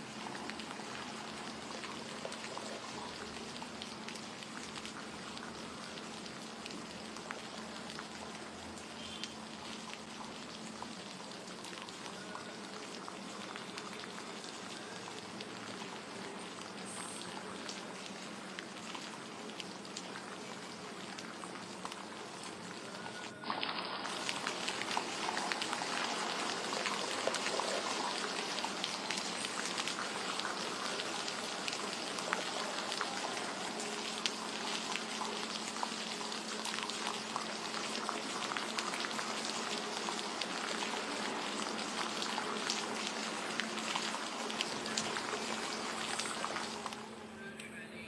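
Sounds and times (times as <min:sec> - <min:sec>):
rain pattering on surfaces: 0:00.0 - 0:47.3.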